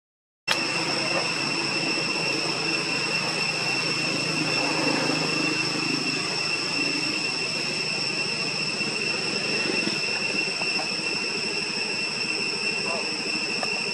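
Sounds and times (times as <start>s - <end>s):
high-pitched insect drone: 0.5s - 13.9s.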